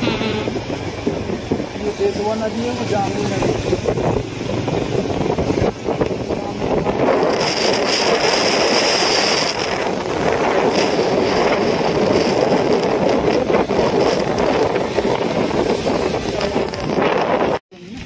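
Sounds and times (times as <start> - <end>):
moving vehicle rushing noise: 0.0 - 18.0
wind buffeting microphone: 0.0 - 18.0.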